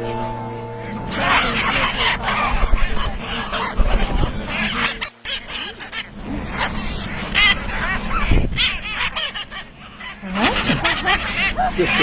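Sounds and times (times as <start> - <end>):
parrots screeching and chattering: 0.0 - 12.0.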